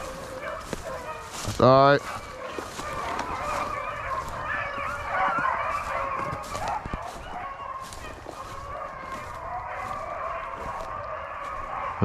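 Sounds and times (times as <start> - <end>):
pack of dogs baying: 0.0 - 12.0.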